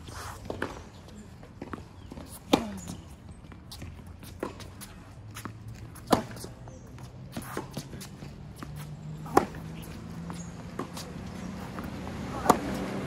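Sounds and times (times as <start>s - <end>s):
tennis ball bouncing on hard court: 0.4s - 0.9s, 1.5s - 13.0s
racket hitting tennis ball: 1.6s - 3.0s, 3.8s - 13.0s.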